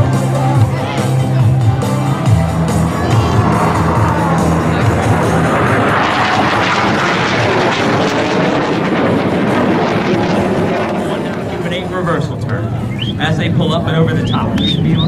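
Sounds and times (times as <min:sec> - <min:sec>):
jets passing with roar: 0:00.0 - 0:15.0.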